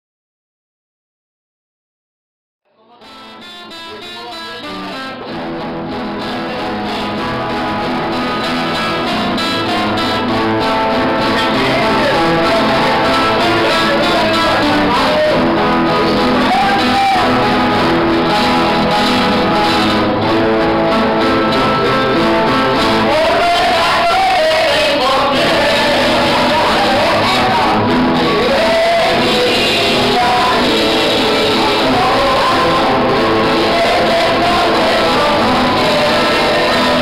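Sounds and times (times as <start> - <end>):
acoustic guitars playing: 3.0 - 37.0.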